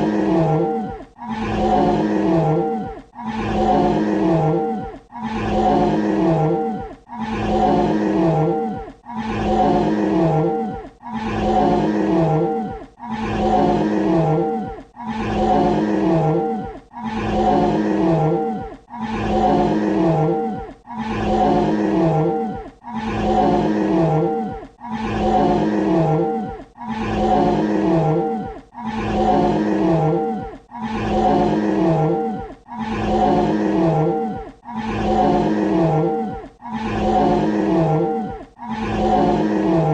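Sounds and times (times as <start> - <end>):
dinosaur roar: 0.0 - 39.9.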